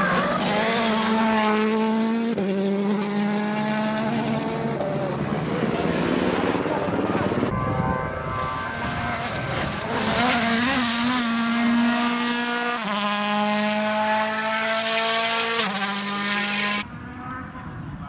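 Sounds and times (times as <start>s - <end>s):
rally car engine at high revs: 0.0s - 16.9s.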